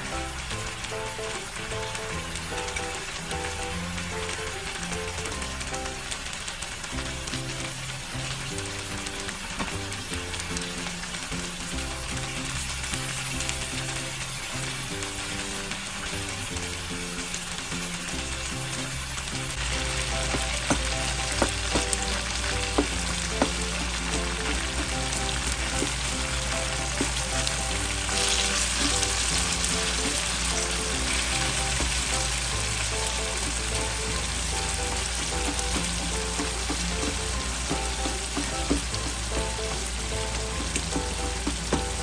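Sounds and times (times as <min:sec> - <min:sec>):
chicken sizzling in hot oil: 0:00.0 - 0:42.0.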